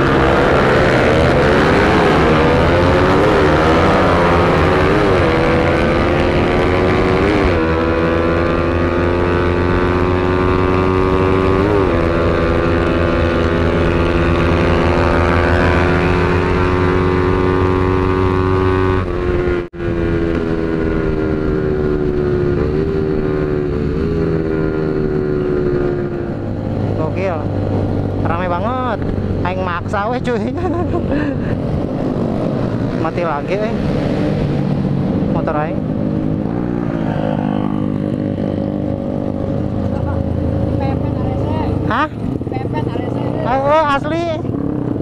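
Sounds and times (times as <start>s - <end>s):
motorcycle engine running hard: 0.0s - 45.0s.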